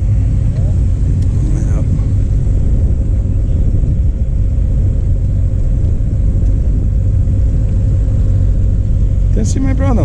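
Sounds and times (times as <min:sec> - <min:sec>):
car driving low rumble: 0:00.0 - 0:10.0.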